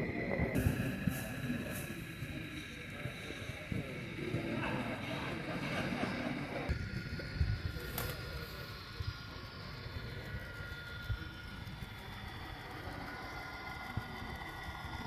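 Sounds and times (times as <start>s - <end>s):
model trains whining: 0.0s - 15.0s.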